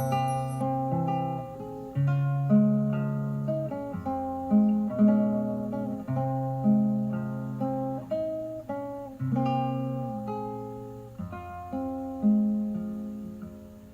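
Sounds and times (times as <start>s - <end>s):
acoustic guitar melody: 0.0s - 13.9s.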